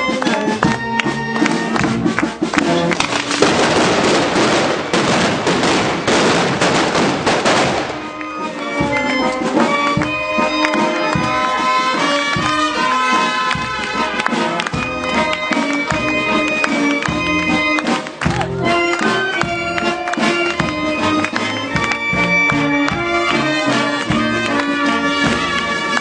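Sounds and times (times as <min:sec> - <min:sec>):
festival music: 0:00.0 - 0:26.0
firecrackers crackling: 0:01.4 - 0:18.2, 0:18.8 - 0:26.0.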